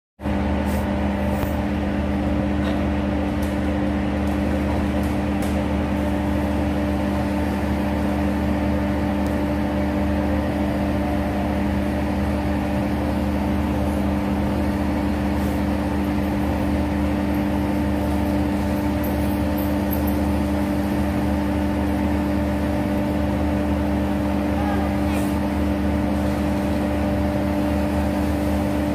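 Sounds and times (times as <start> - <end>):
steady machine drone: 0.2 - 28.9.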